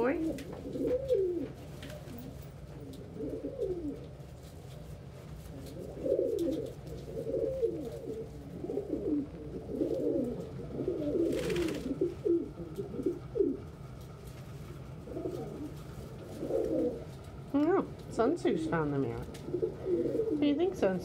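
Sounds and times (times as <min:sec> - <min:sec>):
pigeon cooing: 0:00.0 - 0:13.9, 0:14.8 - 0:18.0, 0:18.6 - 0:21.0.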